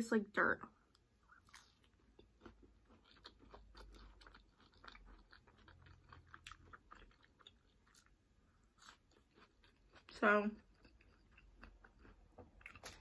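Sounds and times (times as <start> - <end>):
chewing crunchy chips: 0.9 - 13.0.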